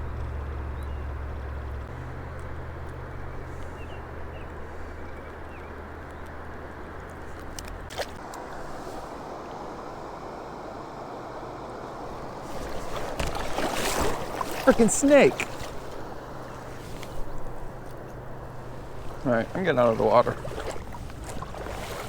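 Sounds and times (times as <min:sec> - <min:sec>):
creek water rushing: 0:00.0 - 0:22.0
low hum: 0:00.0 - 0:22.0.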